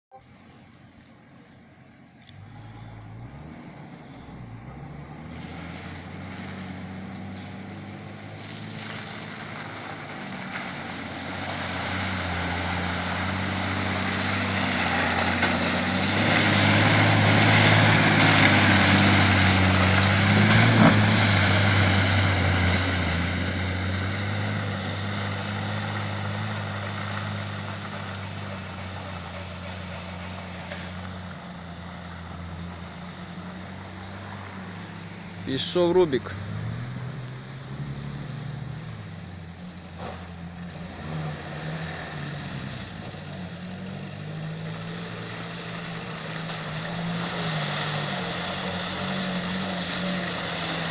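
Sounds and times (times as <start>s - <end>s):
engine running under load: 0.1s - 50.9s
tyres churning and splashing mud: 4.2s - 50.9s.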